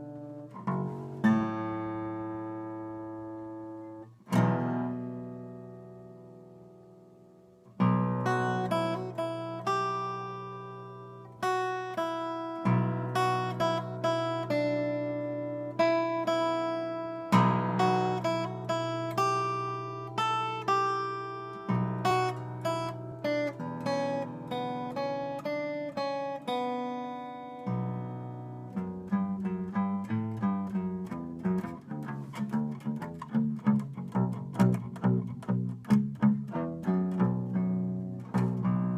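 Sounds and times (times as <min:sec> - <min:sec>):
acoustic guitar picking: 0:00.0 - 0:38.9.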